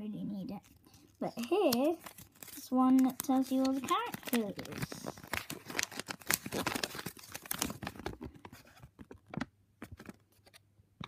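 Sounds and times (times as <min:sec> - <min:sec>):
paper leaflet crinkling: 0:00.6 - 0:10.6.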